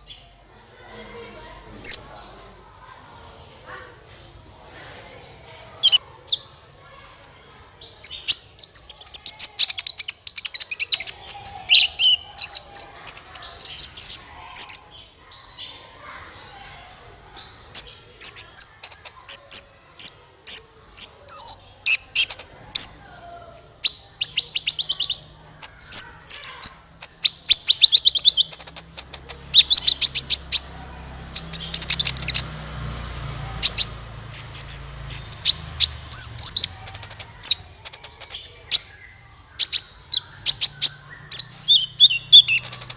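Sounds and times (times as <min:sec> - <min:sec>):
bird chirps and twittering trills: 0:05.2 - 0:23.0, 0:23.8 - 0:42.9.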